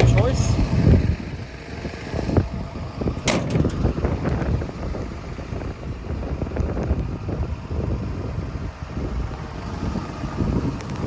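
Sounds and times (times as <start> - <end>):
excavator diesel engine rumble: 0.0 - 10.5
wind buffeting microphone: 0.0 - 11.0.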